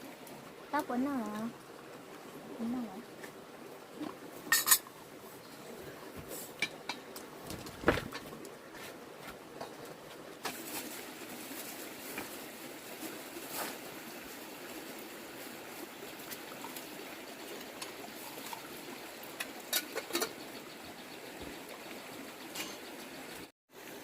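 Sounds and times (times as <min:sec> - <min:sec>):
water trickling: 0:00.0 - 0:07.6, 0:09.6 - 0:24.0.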